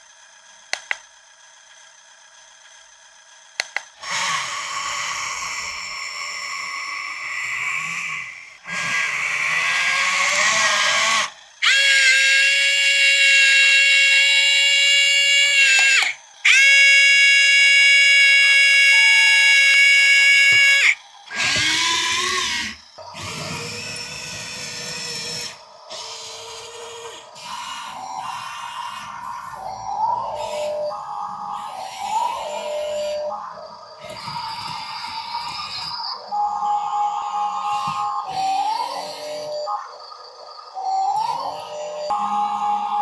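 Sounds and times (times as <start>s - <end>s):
tiny electric motors whining: 3.6s - 43.0s.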